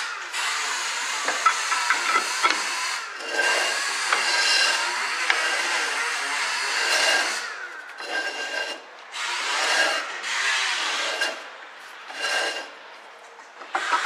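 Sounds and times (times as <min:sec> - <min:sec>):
brake drum scraping: 0:01.1 - 0:14.0.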